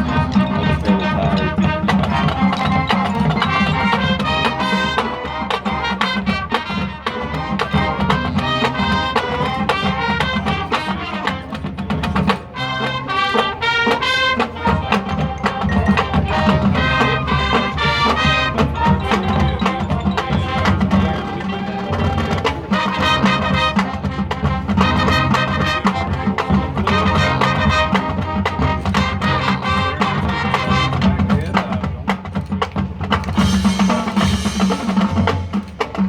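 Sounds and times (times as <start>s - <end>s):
marching band playing: 0.0s - 36.0s
sharp percussion hits: 0.0s - 36.0s.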